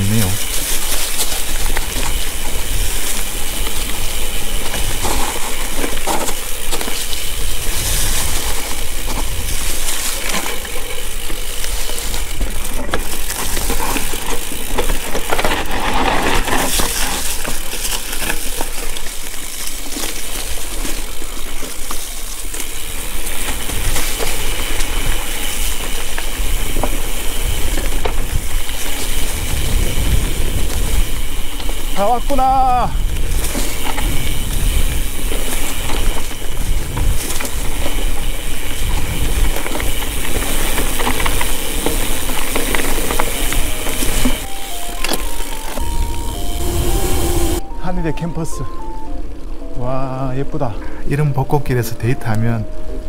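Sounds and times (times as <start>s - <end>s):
low wind rumble on microphone: 0.0s - 44.5s, 45.8s - 47.7s
bike tyres over rough ground: 0.0s - 53.0s.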